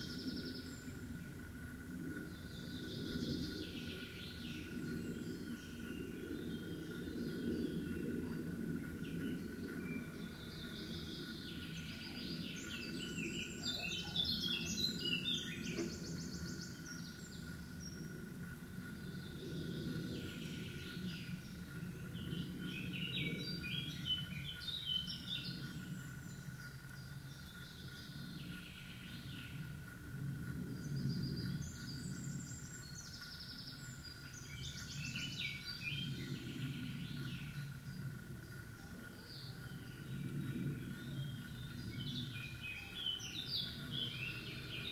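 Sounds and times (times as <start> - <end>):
faint high whine: 0.0 - 44.9
low background rumble: 0.0 - 44.9
songbird singing: 0.0 - 44.9.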